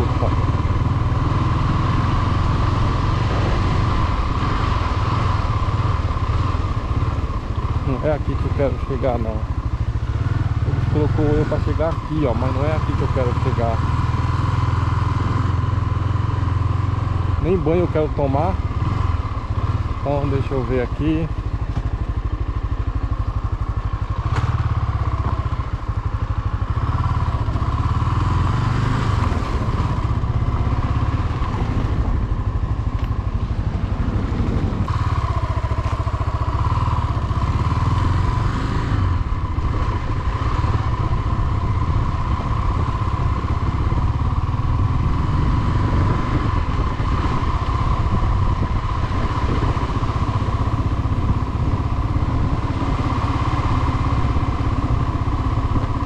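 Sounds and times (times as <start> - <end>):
small motorcycle engine running: 0.0 - 56.0.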